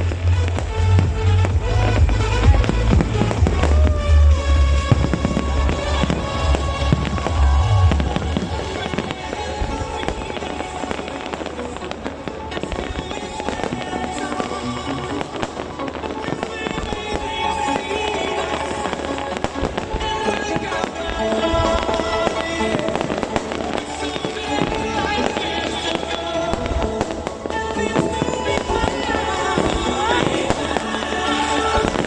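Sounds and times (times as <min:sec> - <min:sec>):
fireworks bangs and crackling: 0:00.0 - 0:32.0
music playing: 0:00.0 - 0:32.0.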